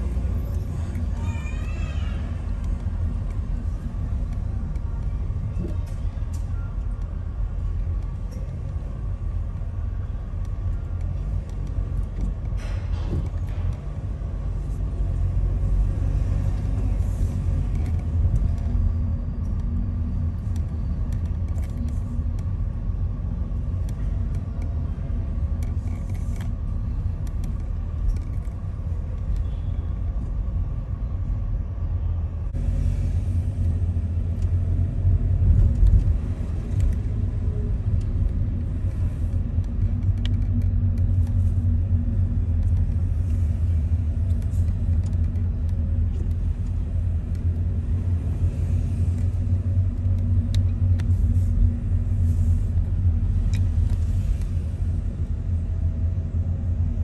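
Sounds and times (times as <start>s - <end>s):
passing cars rumble: 7.2s - 57.0s.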